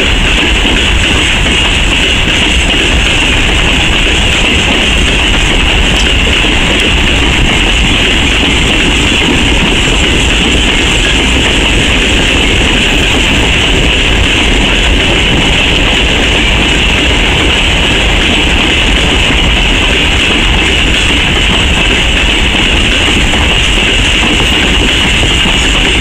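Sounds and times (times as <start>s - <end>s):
train wagons rolling on rails: 0.0s - 26.0s.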